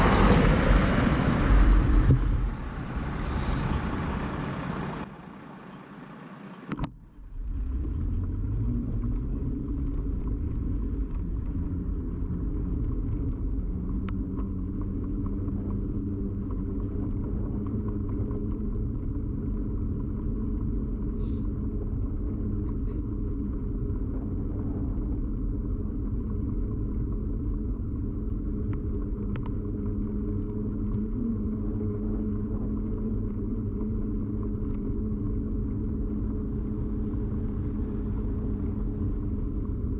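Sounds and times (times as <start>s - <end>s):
bicycle tyre and road rumble: 0.0s - 39.9s.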